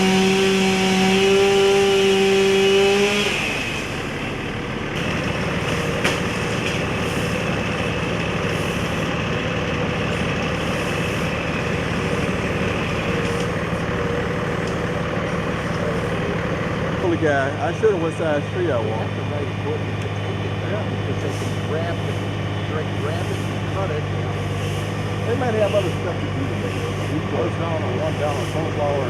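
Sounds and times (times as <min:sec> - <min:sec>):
chainsaw running: 0:00.0 - 0:29.0
steady engine drone: 0:00.0 - 0:29.0.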